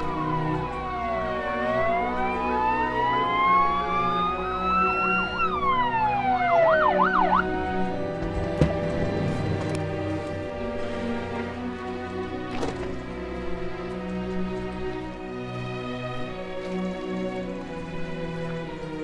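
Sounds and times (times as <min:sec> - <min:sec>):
emergency vehicle siren: 0:00.0 - 0:19.0
film music: 0:00.0 - 0:19.0.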